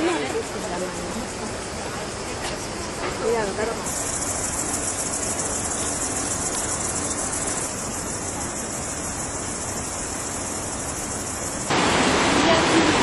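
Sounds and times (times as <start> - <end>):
insect chorus shrilling: 0.0 - 13.0.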